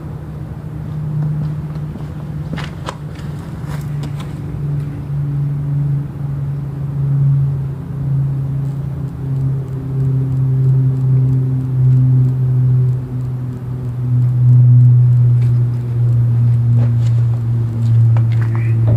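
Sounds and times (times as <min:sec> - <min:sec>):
single-cylinder engine running: 0:00.0 - 0:18.9.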